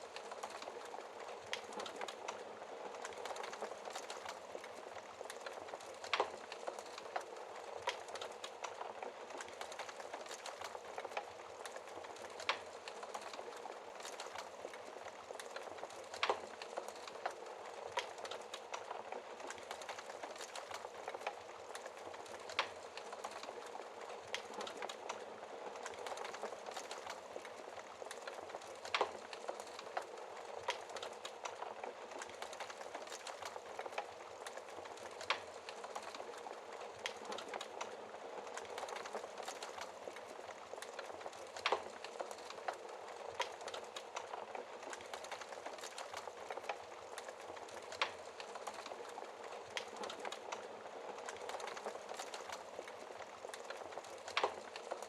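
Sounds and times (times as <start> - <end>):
fire crackling: 0.0 - 55.0
fire popping: 0.0 - 55.0.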